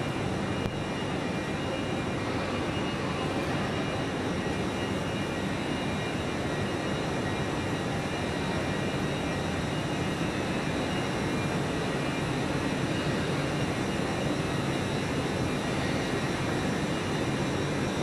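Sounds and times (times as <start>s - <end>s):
faint high whines: 0.0s - 18.0s.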